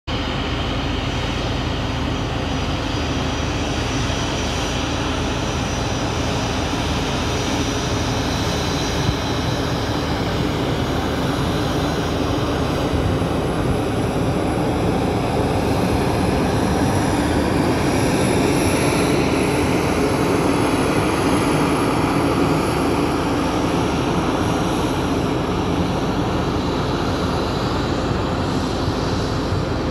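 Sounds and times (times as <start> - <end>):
jet engines roaring with whine: 0.1 - 29.9.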